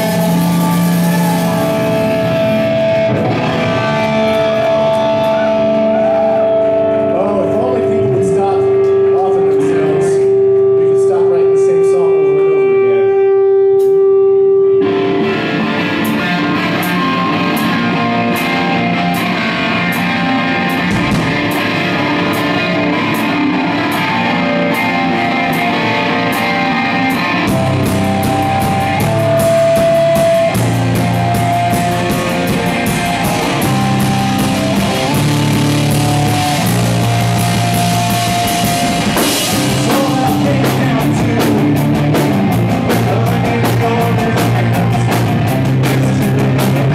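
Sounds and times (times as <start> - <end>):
drum kit: 0.0 - 10.2, 14.9 - 46.9
bass guitar: 0.0 - 46.9
distorted electric guitars: 0.0 - 46.9.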